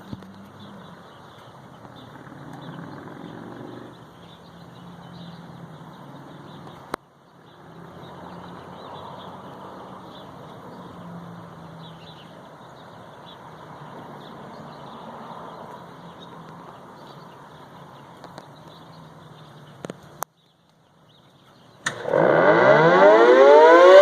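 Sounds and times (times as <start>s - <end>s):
small birds chirping: 0.0s - 22.1s.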